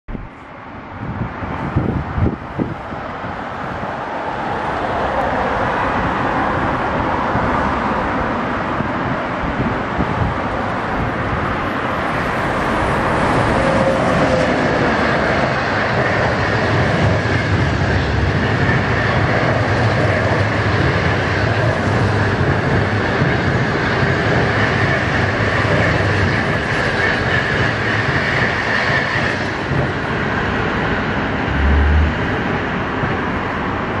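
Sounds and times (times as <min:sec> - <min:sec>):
passing train rumble: 0:00.1 - 0:34.0.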